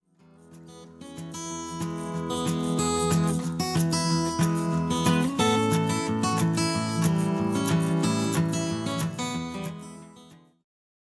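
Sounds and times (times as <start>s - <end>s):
acoustic guitar strumming: 0.2s - 10.5s.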